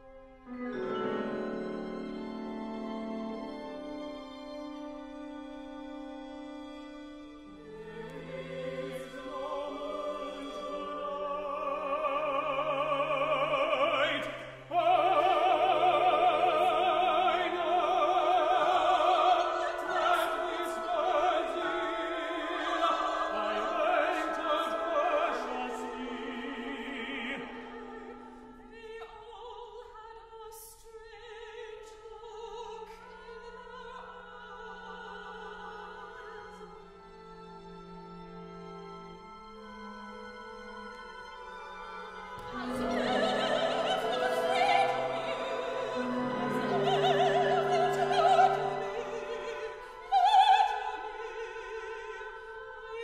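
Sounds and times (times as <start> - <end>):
operatic singing with vibrato: 7.4 - 53.0.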